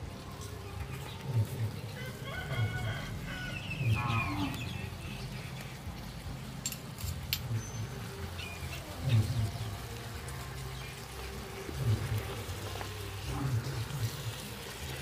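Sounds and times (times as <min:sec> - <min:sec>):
thick sauce boiling in a pot: 0:00.0 - 0:15.0.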